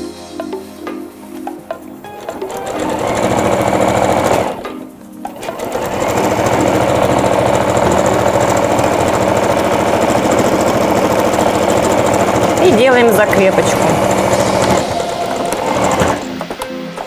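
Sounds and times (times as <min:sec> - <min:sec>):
sewing machine stitching: 0:02.1 - 0:04.7, 0:05.3 - 0:16.5.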